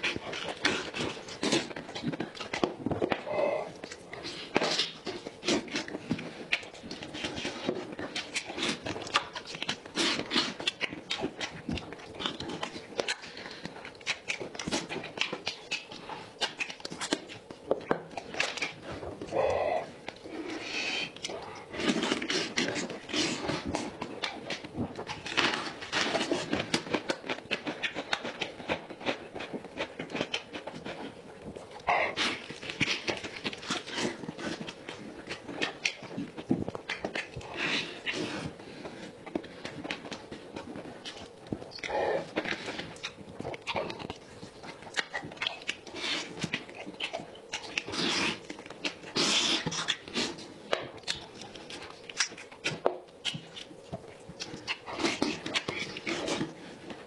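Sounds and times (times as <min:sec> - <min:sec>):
wet crunchy chewing: 0:00.0 - 0:57.0.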